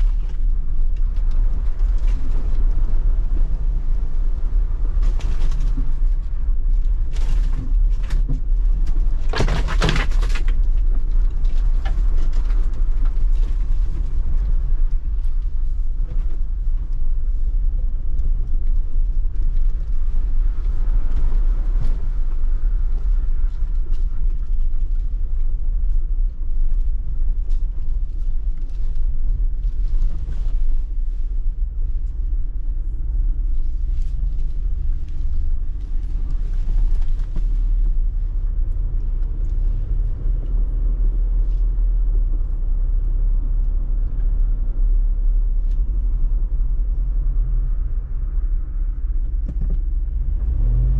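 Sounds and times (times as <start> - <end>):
car engine rumbling: 0.0 - 50.9.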